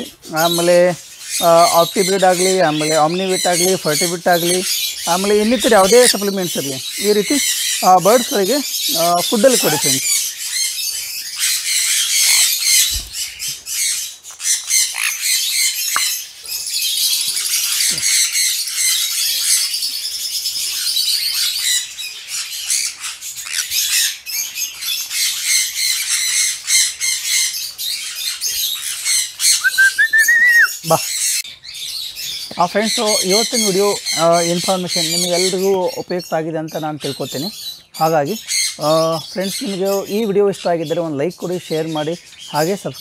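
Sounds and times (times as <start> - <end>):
parrots squawking and screeching: 0.0 - 43.0.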